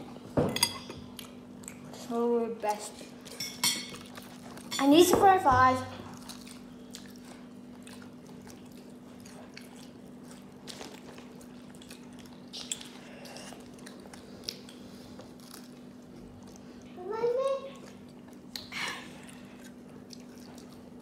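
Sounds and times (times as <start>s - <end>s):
person chewing food: 0.8s - 2.1s, 3.2s - 4.7s, 6.1s - 17.0s, 17.8s - 21.0s.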